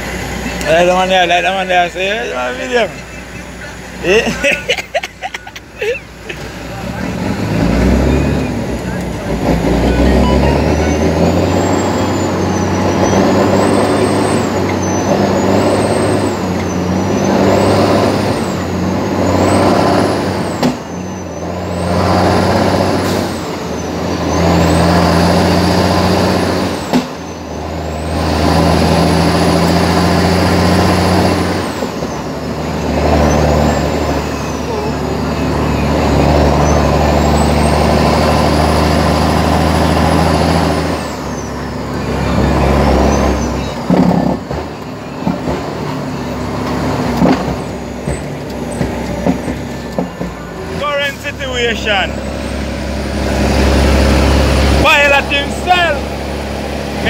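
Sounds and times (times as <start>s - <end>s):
diesel truck engine pulling hard: 0.0s - 57.0s.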